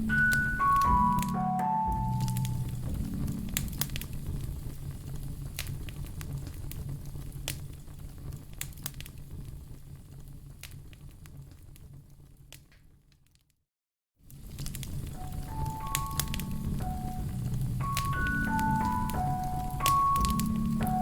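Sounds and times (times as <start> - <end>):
wood fire crackling and popping: 0.0 - 13.4, 14.3 - 21.0.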